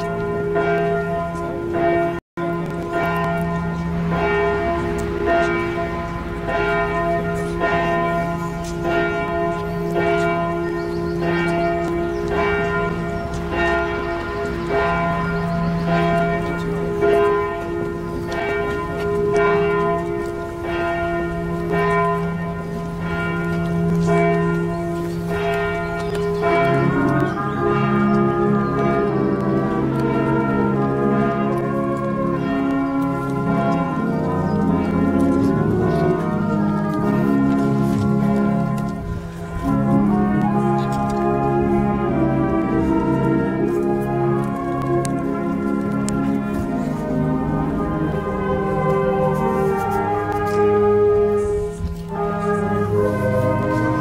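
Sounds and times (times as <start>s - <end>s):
church bells tolling: 0.0s - 54.0s.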